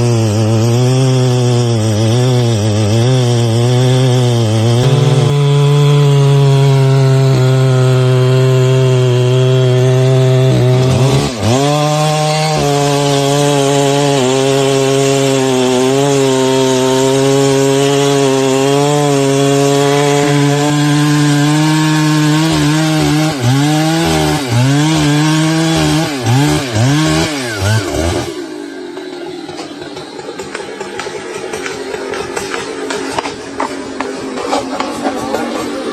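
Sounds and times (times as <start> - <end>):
chainsaw cutting wood: 0.0 - 35.9.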